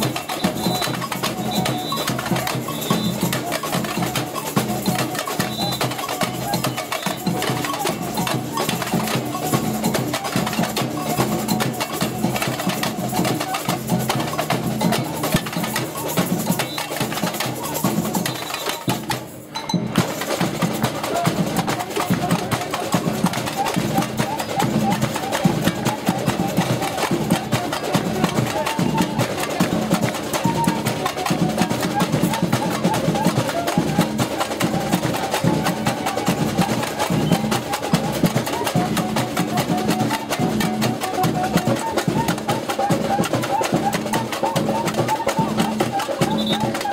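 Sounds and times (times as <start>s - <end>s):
hand drums: 0.0s - 46.9s
shakers: 0.0s - 46.9s.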